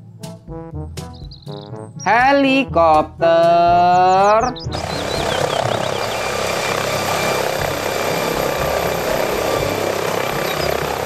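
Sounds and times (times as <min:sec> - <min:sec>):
helicopter hovering: 0:02.1 - 0:11.0.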